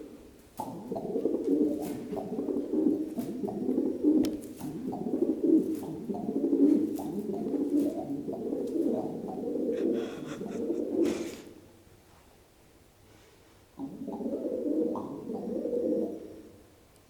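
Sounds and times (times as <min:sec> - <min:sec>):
pigeon cooing: 0:00.0 - 0:11.6, 0:13.8 - 0:16.6.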